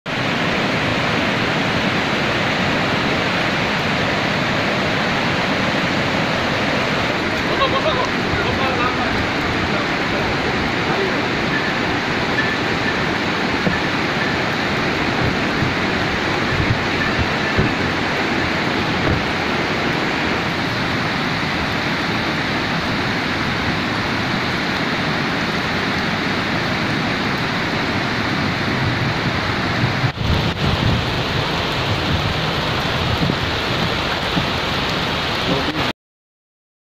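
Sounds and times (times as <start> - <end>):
heavy rain falling: 0.1 - 35.9.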